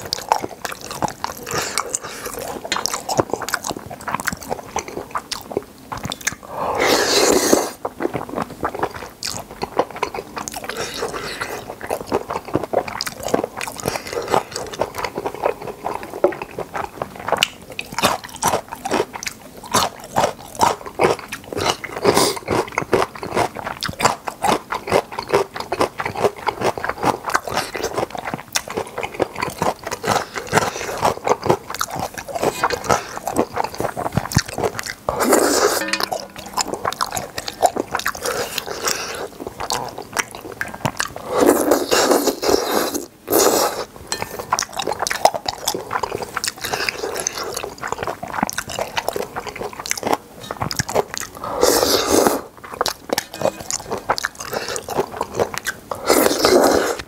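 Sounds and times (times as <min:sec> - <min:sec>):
close chewing clicks and crunches: 0:00.0 - 0:57.0.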